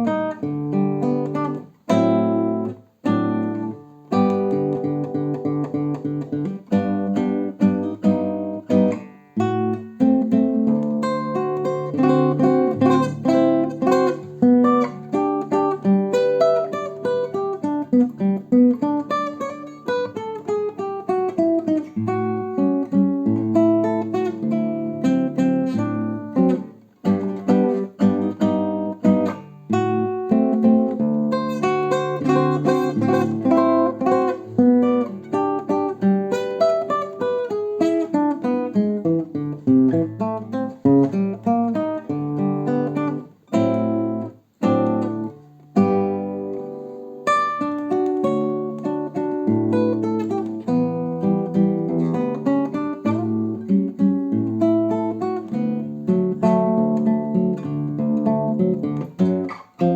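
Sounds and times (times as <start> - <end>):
solo acoustic guitar: 0.0 - 59.9.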